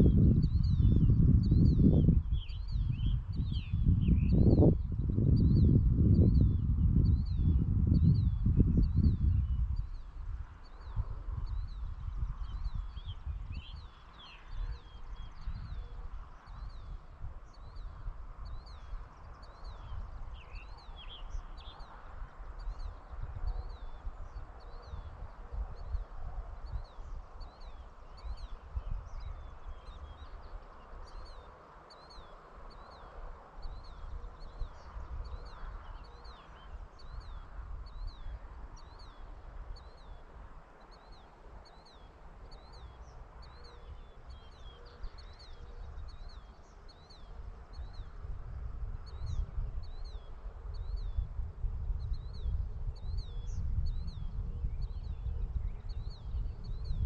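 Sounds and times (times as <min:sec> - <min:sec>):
low gusty rumble: 0:00.0 - 0:31.6, 0:32.2 - 0:57.0
bird chirping: 0:00.0 - 0:48.2, 0:49.0 - 0:51.3, 0:52.0 - 0:57.0.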